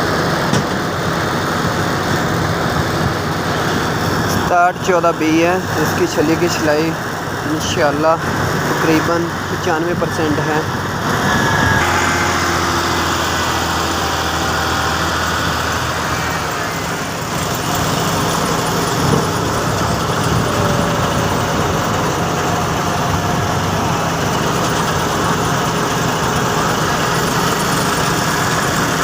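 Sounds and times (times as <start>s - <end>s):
harvester engine drone: 0.0s - 29.0s.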